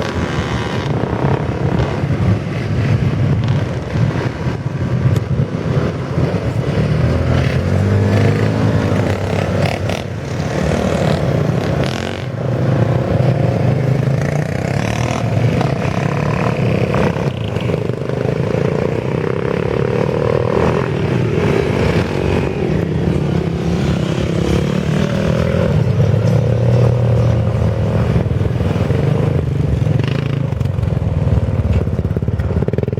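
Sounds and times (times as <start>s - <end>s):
motorcycle engines revving: 0.0s - 32.9s.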